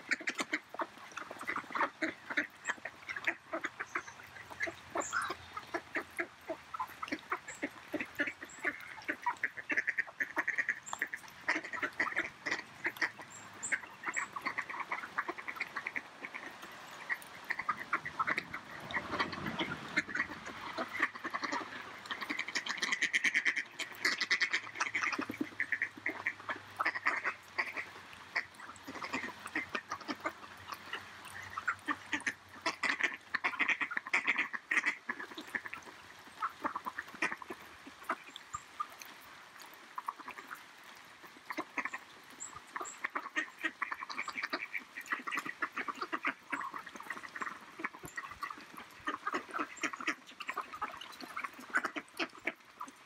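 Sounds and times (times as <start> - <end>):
ducks quacking: 0.0 - 38.6, 41.2 - 53.0.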